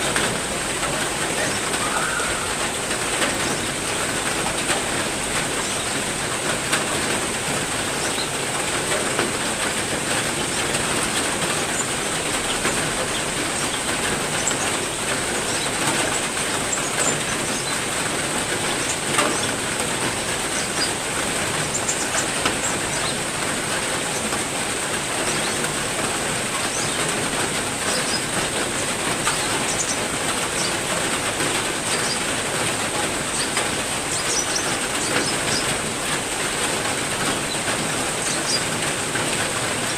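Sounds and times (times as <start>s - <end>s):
birds chirping: 0.0s - 6.4s, 7.1s - 24.4s, 25.0s - 39.9s
heavy rain falling: 0.0s - 39.9s.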